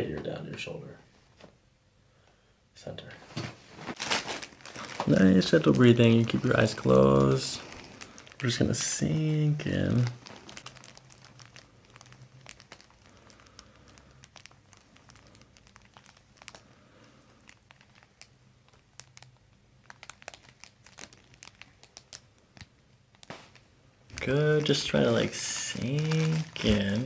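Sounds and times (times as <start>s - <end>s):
paper crinkling: 3.8s - 27.0s.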